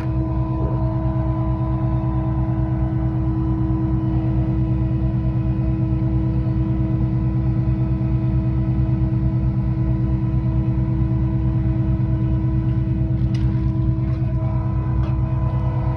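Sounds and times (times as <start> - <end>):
pump engine pulsing with whine: 0.0 - 15.9.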